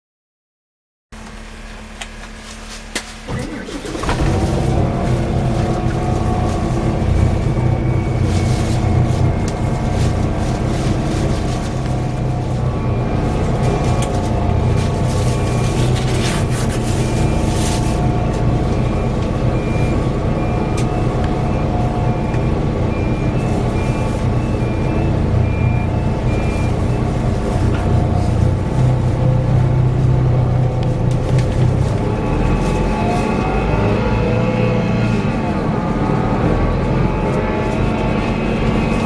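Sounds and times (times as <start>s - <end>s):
bus engine drone: 1.2s - 39.0s.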